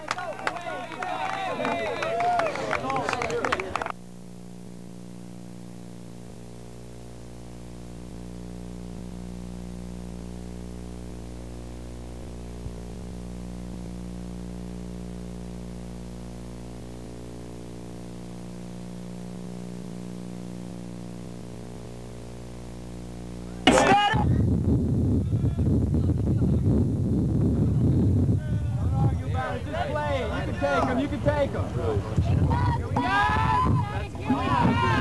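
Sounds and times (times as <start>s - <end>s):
electrical mains hum: 0.0s - 35.0s
tape hiss: 0.0s - 35.0s.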